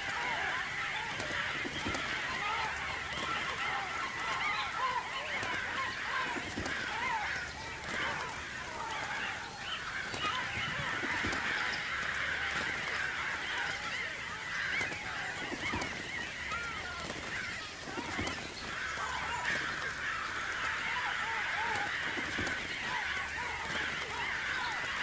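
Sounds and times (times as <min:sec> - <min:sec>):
flock of birds calling: 0:00.0 - 0:25.0.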